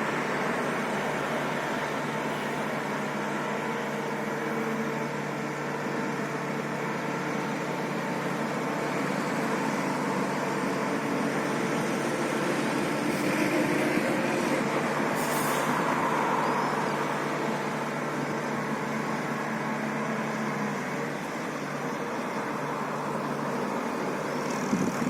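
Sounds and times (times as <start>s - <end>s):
engine or traffic hum: 0.0s - 25.0s.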